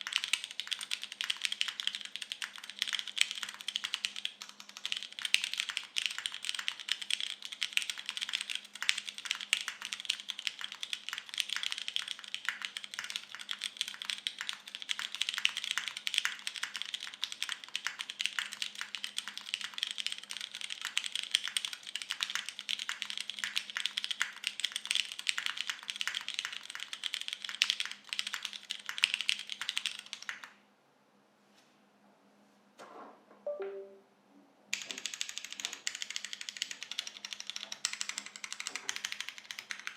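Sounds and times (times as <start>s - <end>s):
fast mechanical keyboard typing: 0.0s - 30.6s, 34.8s - 39.9s.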